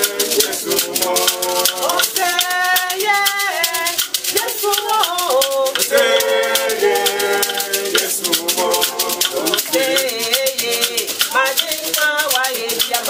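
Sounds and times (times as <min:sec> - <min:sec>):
beaded gourd rattle shaken: 0:00.0 - 0:13.0
voices singing: 0:00.0 - 0:13.0
wooden sticks clicking: 0:00.0 - 0:13.0.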